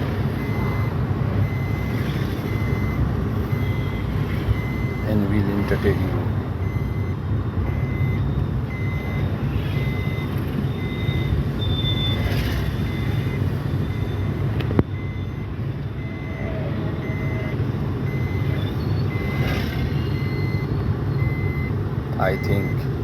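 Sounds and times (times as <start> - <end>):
vehicle reversing alarm beeping: 0.0 - 23.0.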